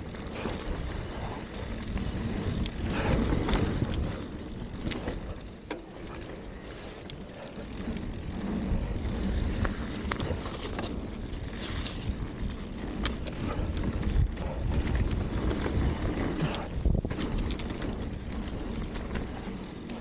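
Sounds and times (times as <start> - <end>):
wind buffeting microphone: 0.0 - 5.6, 6.5 - 20.0
bike clicks: 0.0 - 20.0
bike tyres rumbling on dirt: 0.0 - 20.0.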